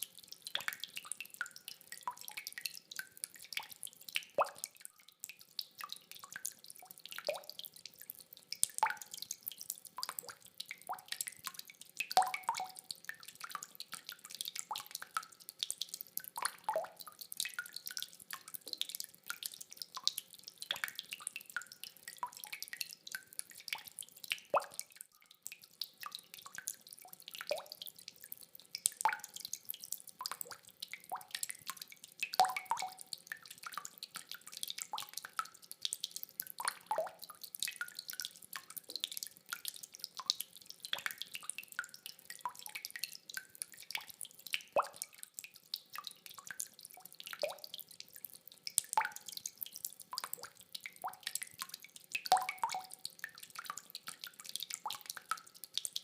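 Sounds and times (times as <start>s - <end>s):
rainwater dripping: 0.0s - 56.0s.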